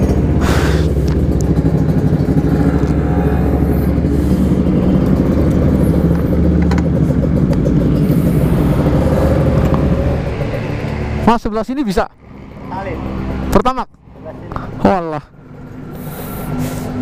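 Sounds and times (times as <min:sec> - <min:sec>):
two-stroke motorcycle engine running: 0:00.0 - 0:16.6.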